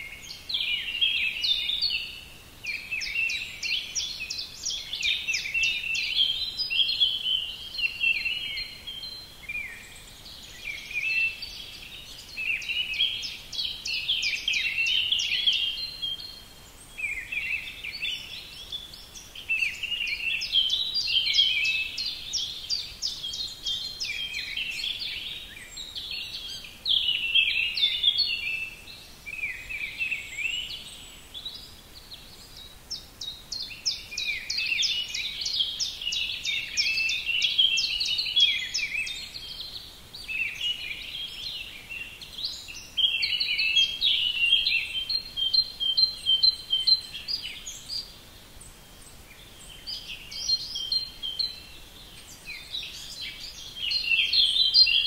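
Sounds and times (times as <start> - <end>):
birds twittering and trilling: 0.0 - 55.0.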